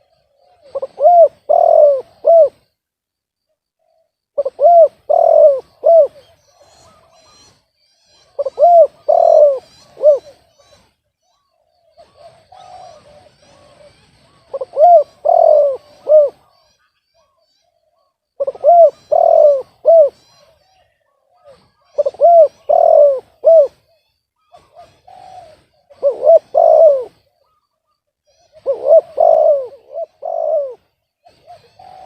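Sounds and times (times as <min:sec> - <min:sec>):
dove cooing: 0:00.0 - 0:02.7, 0:03.8 - 0:07.6, 0:08.2 - 0:32.0.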